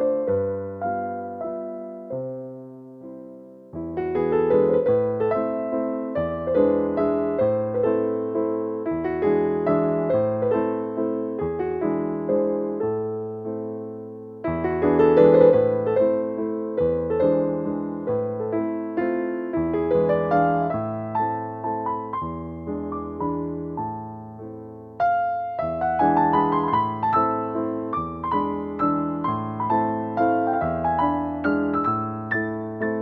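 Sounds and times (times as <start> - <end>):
gentle piano melody: 0.0 - 33.0.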